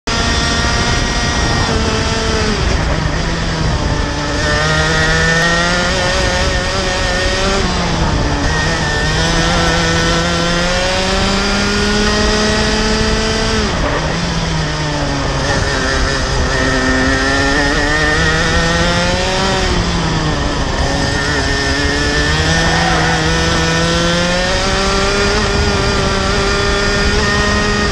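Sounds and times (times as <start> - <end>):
kart engine revving: 0.1 - 27.9.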